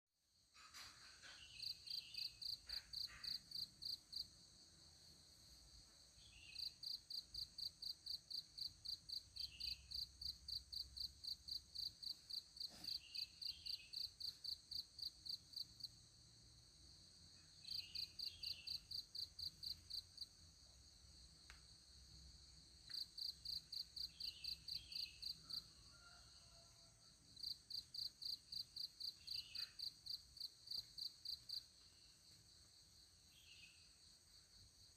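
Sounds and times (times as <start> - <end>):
insect chirping: 0.3 - 34.9.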